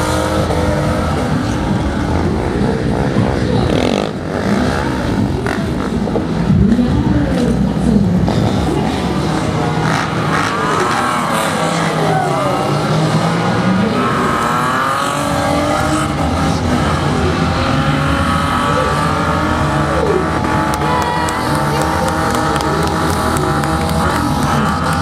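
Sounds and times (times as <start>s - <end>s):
car engine at high revs: 0.0s - 25.0s.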